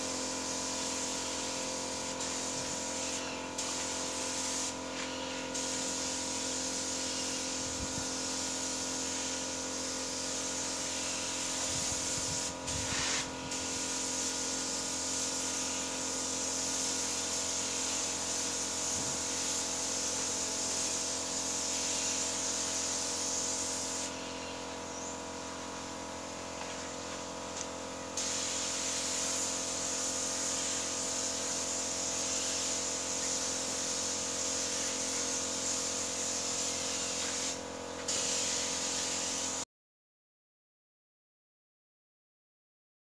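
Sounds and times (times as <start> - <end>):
spray gun hissing: 0.0 - 27.4, 28.1 - 39.6.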